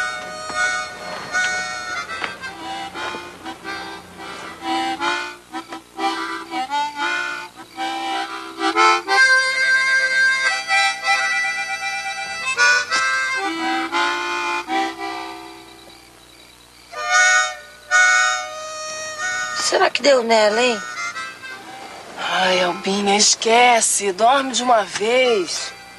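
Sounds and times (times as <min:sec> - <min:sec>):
harmonica playing a melody: 0:00.0 - 0:25.9.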